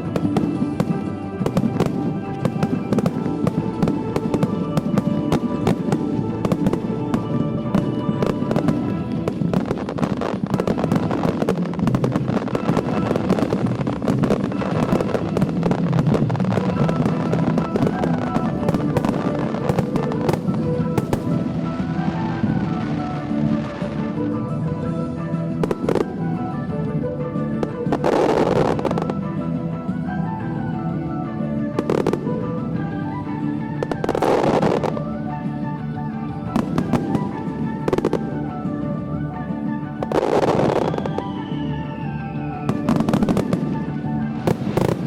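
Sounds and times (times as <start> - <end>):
fireworks bursting and crackling: 0.0 - 45.0
music with sustained tones: 0.0 - 45.0.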